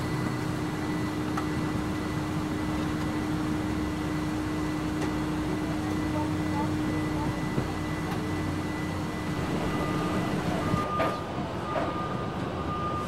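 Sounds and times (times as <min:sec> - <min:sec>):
airliner hum with whine: 0:00.0 - 0:13.0.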